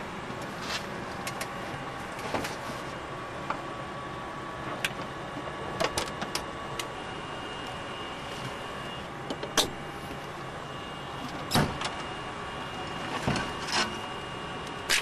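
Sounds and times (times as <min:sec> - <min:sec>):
hum of cockpit machinery: 0:00.0 - 0:15.0.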